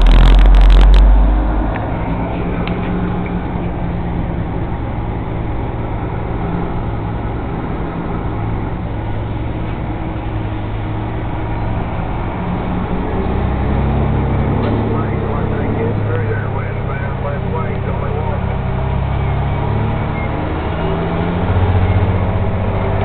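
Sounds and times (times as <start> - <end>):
road and cab noise: 0.0 - 23.0
truck diesel engine drone: 0.0 - 23.0.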